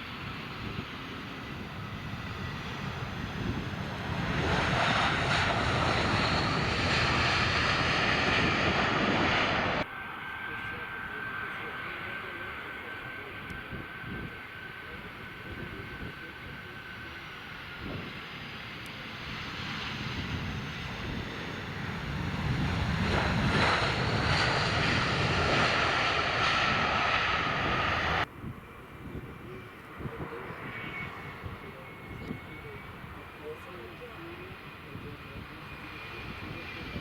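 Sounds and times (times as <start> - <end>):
jet engines rushing with whine: 0.0 - 37.0
wind buffeting microphone: 0.1 - 9.8, 13.4 - 33.4.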